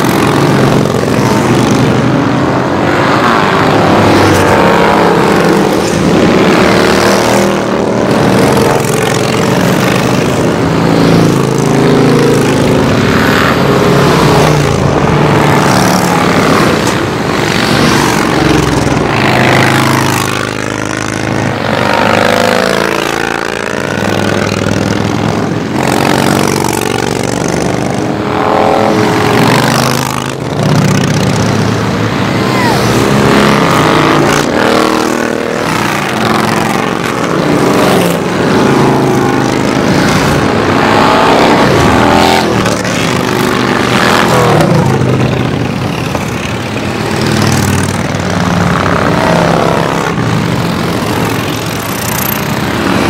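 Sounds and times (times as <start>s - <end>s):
motorcycles riding past: 0.0s - 53.0s.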